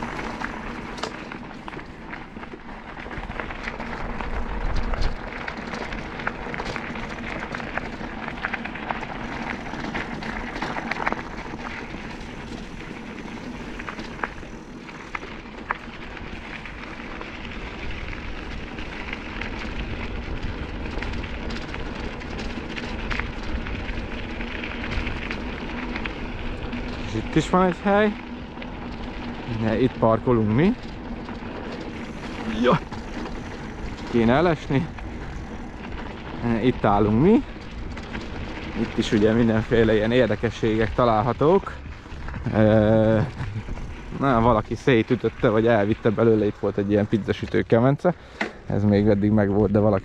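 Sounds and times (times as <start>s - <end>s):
wind rumble on microphone: 0.0s - 47.6s
small clicks and rattles: 0.0s - 50.0s
tyres crunching on gravel: 0.0s - 50.0s.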